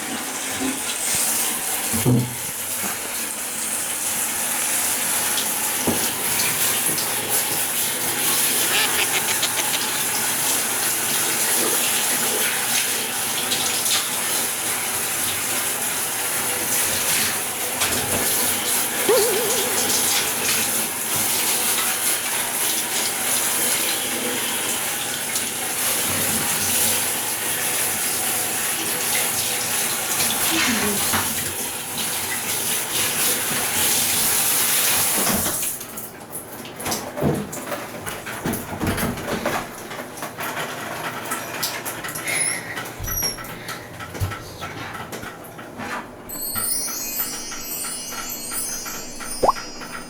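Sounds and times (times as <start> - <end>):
tap water running into bath: 0.0 - 45.6.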